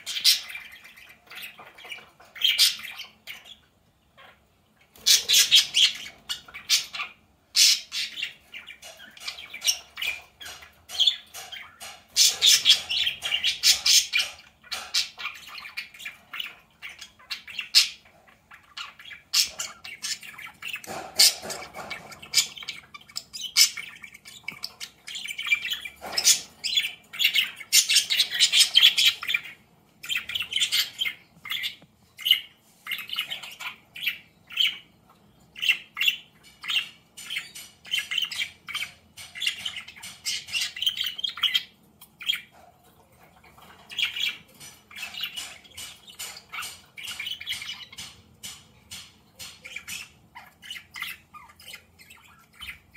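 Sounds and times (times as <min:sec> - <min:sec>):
budgerigars chirping: 0:00.0 - 0:52.9.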